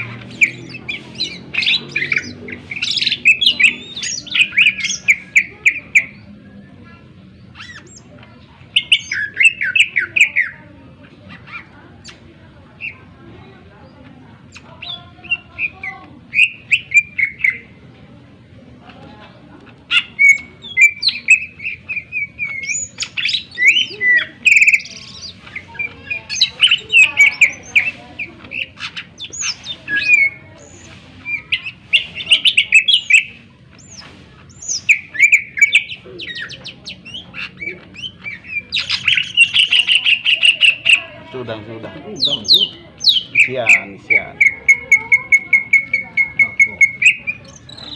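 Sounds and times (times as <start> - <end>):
bird singing whistles and chatter: 0.0 - 17.9, 19.8 - 41.4, 42.0 - 47.9.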